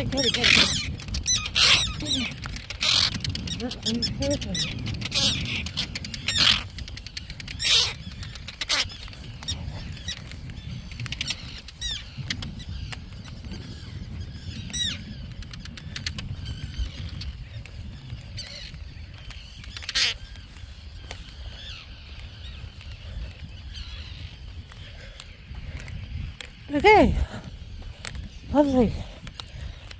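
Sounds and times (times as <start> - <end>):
terns giving harsh alarm calls: 0.0 - 29.9.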